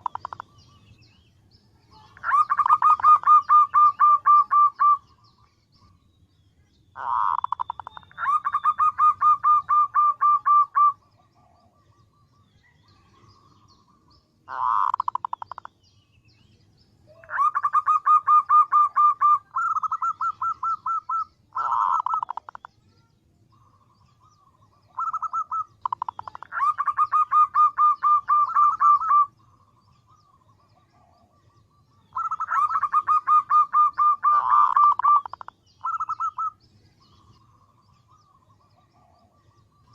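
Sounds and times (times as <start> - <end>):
dove calling: 0.0 - 6.0, 6.9 - 15.9, 17.1 - 22.8, 23.5 - 39.9.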